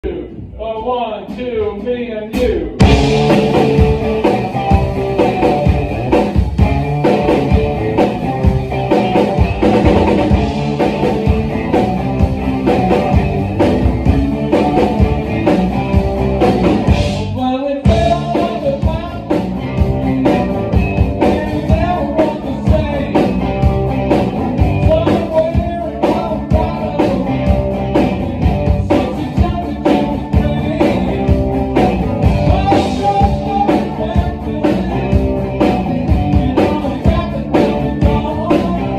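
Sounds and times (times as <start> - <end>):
live rock band playing: 1.3 - 38.9.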